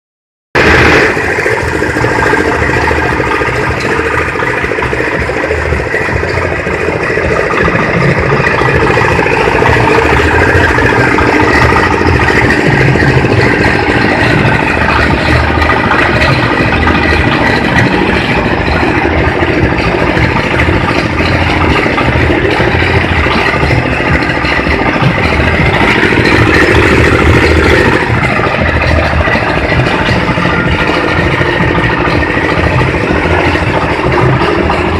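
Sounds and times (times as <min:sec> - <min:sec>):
feed chopper motor drone: 0:00.6 - 0:34.9
machine rattling and clatter: 0:00.6 - 0:34.9.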